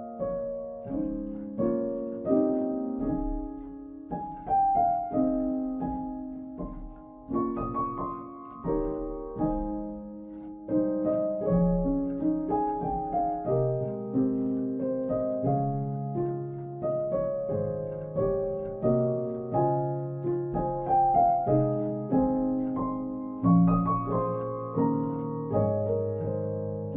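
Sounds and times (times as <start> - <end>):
slow gentle piano music: 0.0 - 26.9.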